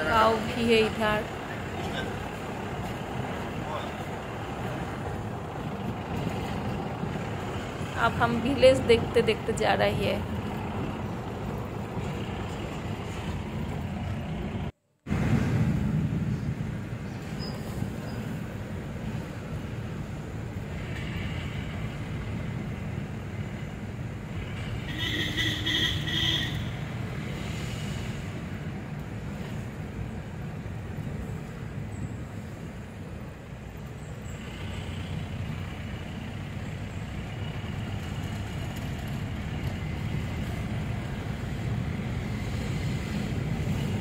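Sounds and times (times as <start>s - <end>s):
car driving on road: 0.0s - 44.0s.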